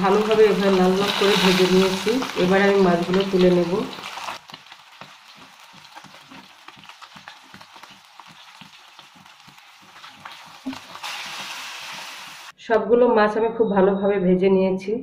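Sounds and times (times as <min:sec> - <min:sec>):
fish sizzling in hot oil: 0:00.0 - 0:12.6.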